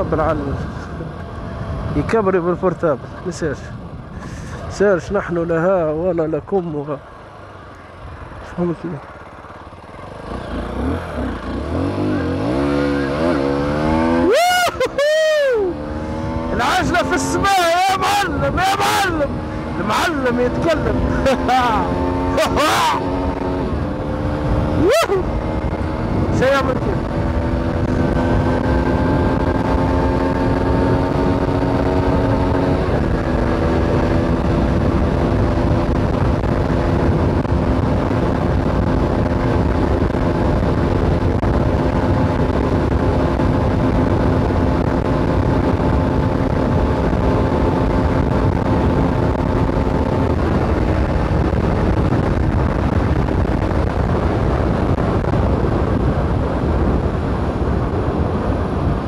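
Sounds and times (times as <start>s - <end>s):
motorcycle engine at road speed: 0.0s - 59.0s
wind rush on microphone: 10.2s - 59.0s.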